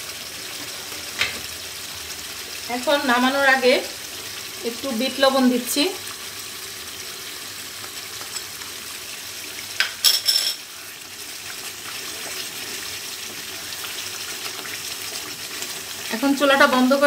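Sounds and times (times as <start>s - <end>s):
pot simmering and sizzling: 0.0s - 17.0s.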